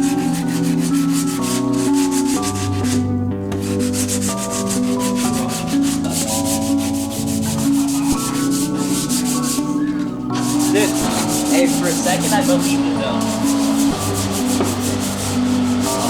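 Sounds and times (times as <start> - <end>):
background music with fast beat: 0.0 - 16.0
sandpaper rubbing on metal panels: 0.0 - 16.0.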